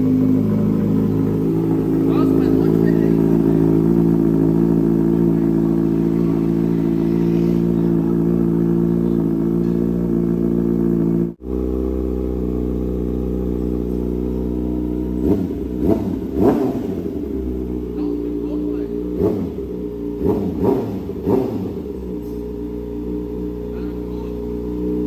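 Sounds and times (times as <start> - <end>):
engine revving: 0.0 - 25.0
motorcycle engine idling: 0.0 - 25.0.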